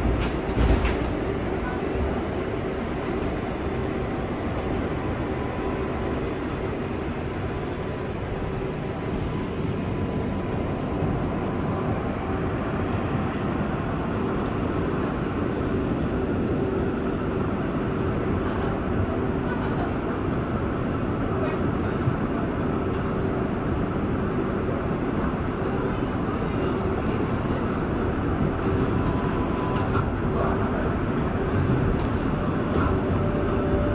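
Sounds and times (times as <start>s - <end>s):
subway train rumbling: 0.0s - 33.9s.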